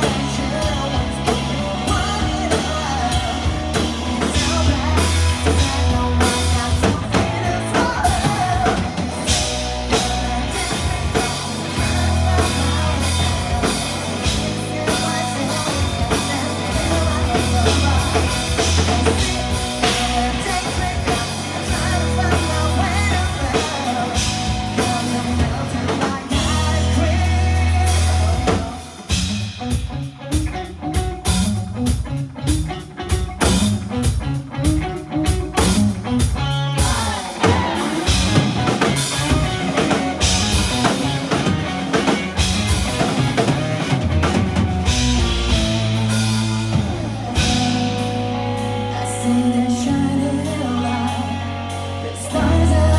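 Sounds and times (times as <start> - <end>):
person singing: 0.0 - 29.4, 36.3 - 42.2, 44.9 - 52.9
bass guitar: 0.0 - 52.9
drum kit: 0.0 - 52.9
electric guitar: 0.0 - 52.9
picked guitar: 0.0 - 52.9.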